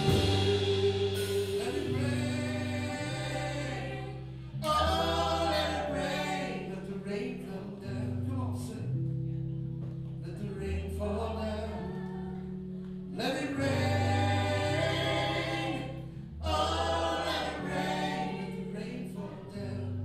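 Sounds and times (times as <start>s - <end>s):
group of singers: 0.0s - 8.8s, 10.7s - 20.0s
bass guitar: 0.0s - 20.0s
electric and acoustic guitars: 0.0s - 20.0s.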